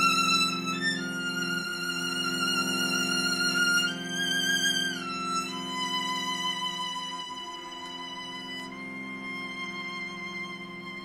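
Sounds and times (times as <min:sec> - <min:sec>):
cello low notes: 0:00.0 - 0:11.0
violin high notes: 0:00.0 - 0:11.0.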